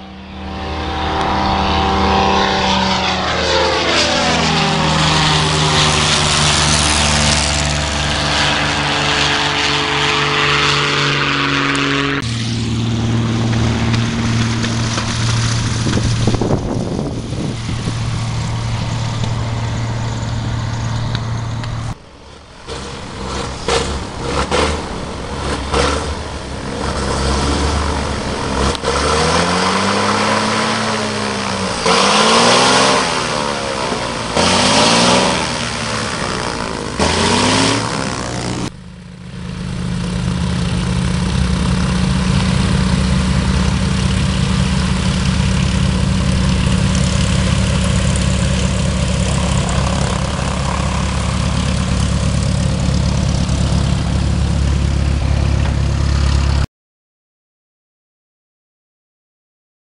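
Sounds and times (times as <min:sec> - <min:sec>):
propeller aircraft engine: 0:00.0 - 0:56.7.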